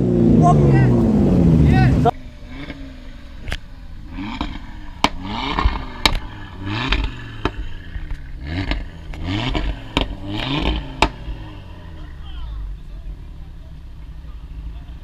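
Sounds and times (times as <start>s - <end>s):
car engine revving: 0.0s - 15.0s
exhaust cracks: 0.0s - 15.0s.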